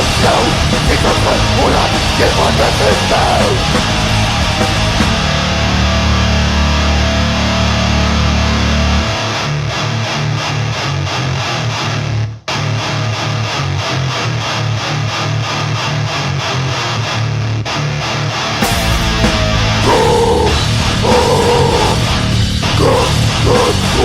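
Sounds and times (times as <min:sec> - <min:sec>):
heavy metal music: 0:00.0 - 0:24.0.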